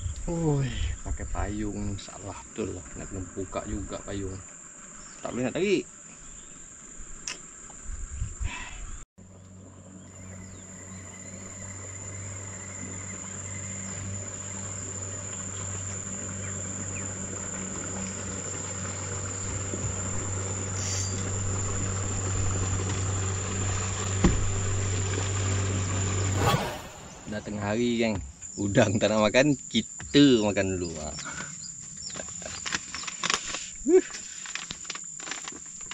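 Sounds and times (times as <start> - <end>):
insects droning: 0.0 - 35.9.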